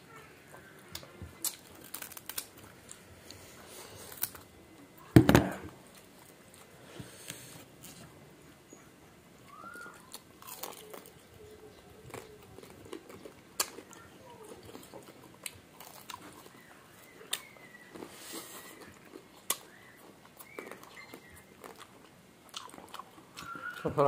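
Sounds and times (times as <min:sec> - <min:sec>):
chewing crispy pork: 0:00.0 - 0:05.1, 0:09.4 - 0:24.0.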